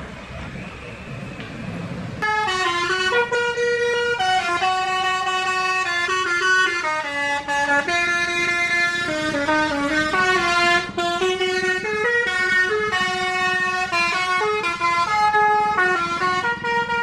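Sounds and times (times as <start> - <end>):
bus engine: 0.0 - 17.0
road noise: 0.0 - 17.0
multi-tone air horn melody: 2.2 - 17.0.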